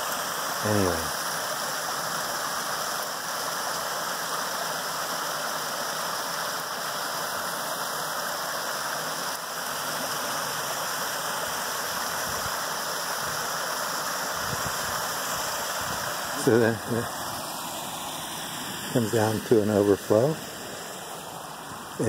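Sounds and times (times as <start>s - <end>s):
waterfall splashing into pond: 0.0s - 22.0s.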